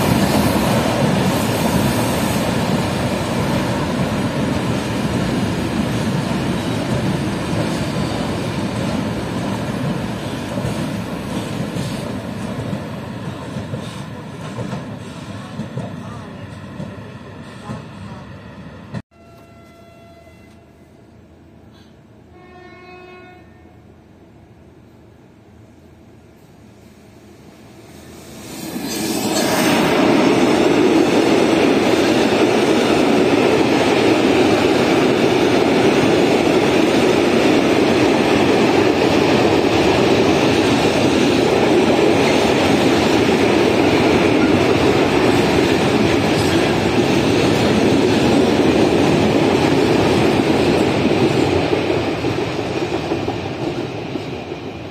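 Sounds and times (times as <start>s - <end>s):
train wheels rolling on rails: 0.0s - 19.8s, 27.7s - 54.9s.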